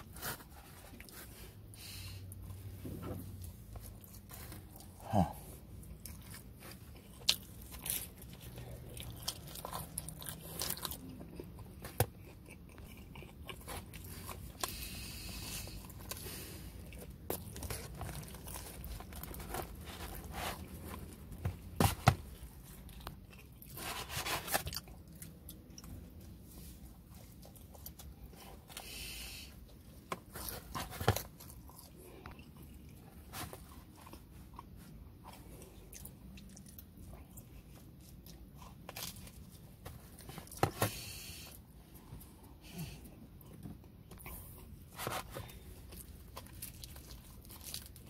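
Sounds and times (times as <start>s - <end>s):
person chewing pizza: 0.0s - 48.0s.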